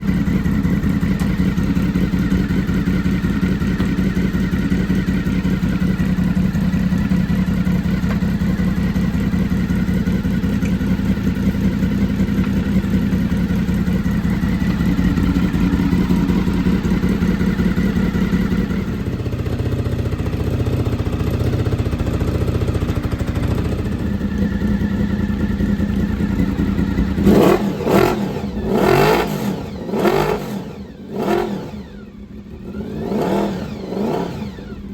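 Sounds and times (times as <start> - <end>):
motorcycle engine idling: 0.0 - 34.9
motorcycle engine revving: 0.0 - 34.9.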